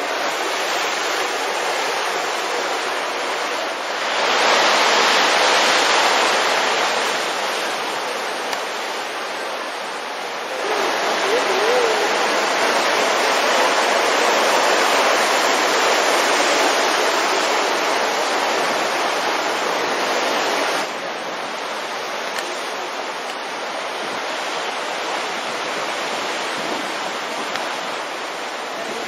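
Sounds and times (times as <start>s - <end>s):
surf breaking over rocks: 0.0s - 29.0s.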